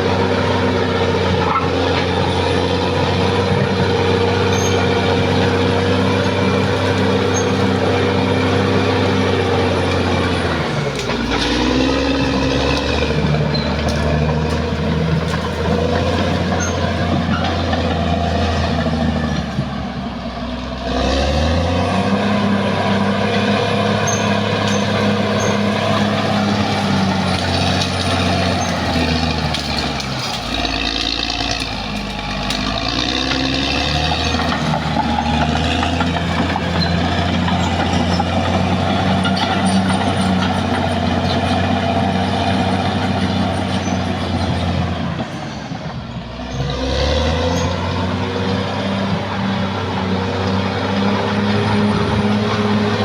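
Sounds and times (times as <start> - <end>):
bulldozer diesel engine working: 0.0 - 53.0.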